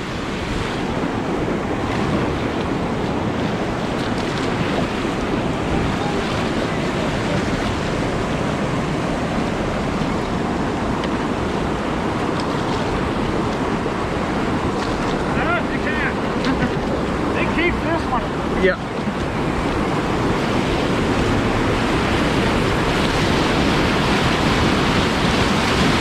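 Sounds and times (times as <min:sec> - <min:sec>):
river rapids rushing: 0:00.0 - 0:26.0
wind noise on microphone: 0:00.0 - 0:26.0.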